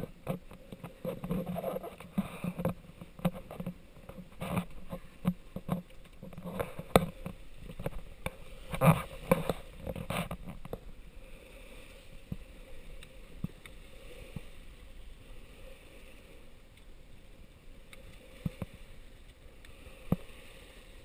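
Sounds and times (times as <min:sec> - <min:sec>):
water rushing against hull: 0:00.0 - 0:21.0.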